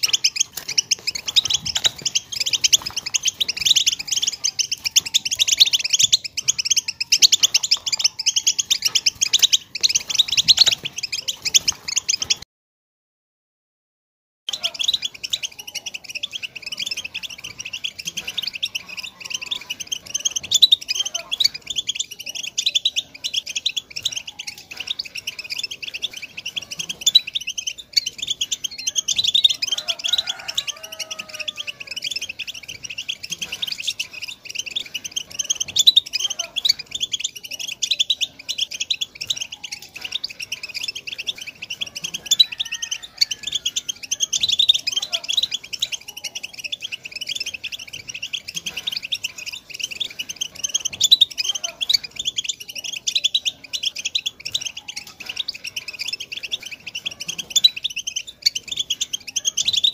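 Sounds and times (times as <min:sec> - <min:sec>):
goldfinch twittering song: 0:00.0 - 0:12.4, 0:14.5 - 0:59.9.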